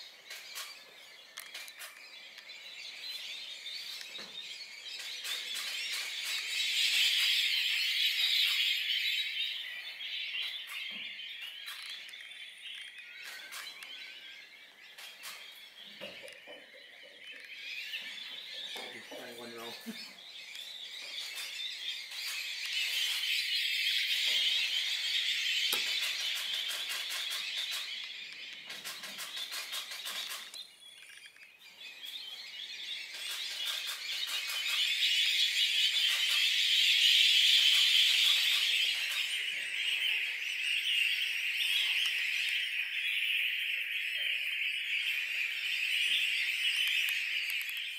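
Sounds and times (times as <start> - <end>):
flock of shorebirds calling: 0.0 - 47.9.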